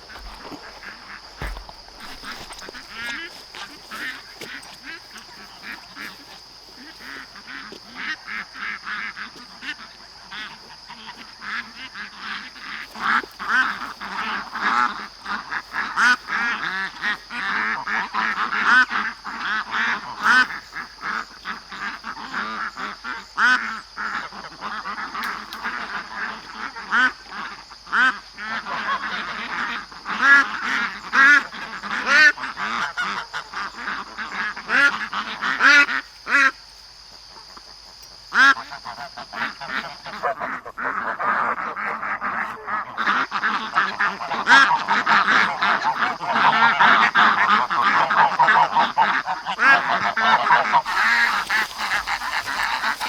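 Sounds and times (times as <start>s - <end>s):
ducks quacking: 0.0s - 36.6s, 38.3s - 53.0s
geese honking: 0.0s - 36.6s, 38.3s - 53.0s.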